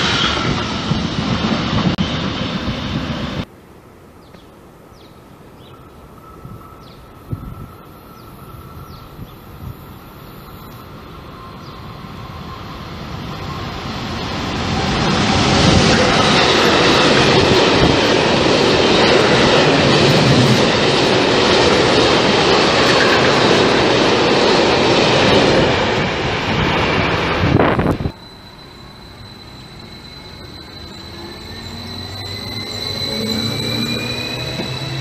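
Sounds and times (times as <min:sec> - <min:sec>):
freight train wheels on rails: 0:00.0 - 0:03.5, 0:06.1 - 0:35.0.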